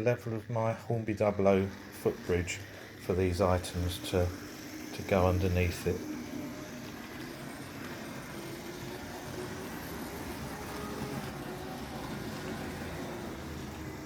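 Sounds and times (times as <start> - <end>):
faint motor hum: 0.0 - 14.0
model train wheels rumbling on rails: 0.0 - 14.0.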